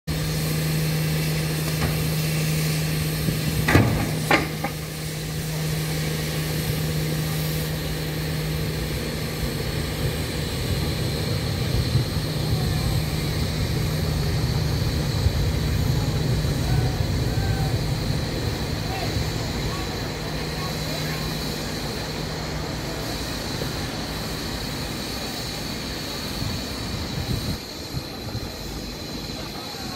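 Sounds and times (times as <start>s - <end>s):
engine humming: 0.1s - 29.9s.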